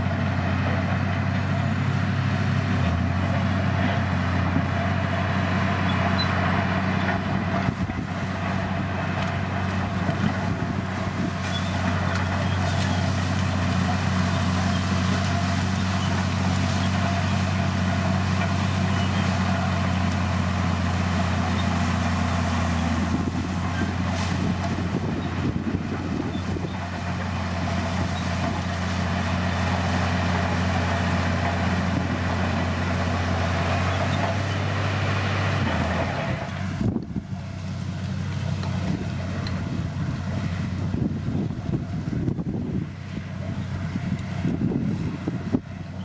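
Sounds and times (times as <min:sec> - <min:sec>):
bulldozer diesel engine drone: 0:00.0 - 0:46.0.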